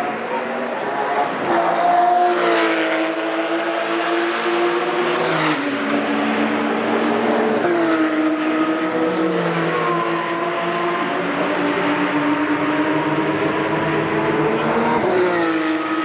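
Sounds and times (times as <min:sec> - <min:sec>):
racing car engines at full throttle: 0:00.0 - 0:16.0.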